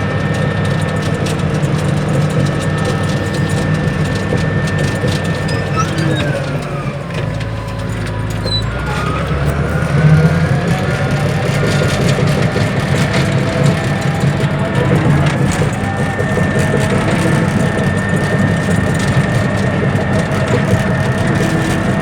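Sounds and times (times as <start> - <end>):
bulldozer diesel engine: 0.0 - 22.0.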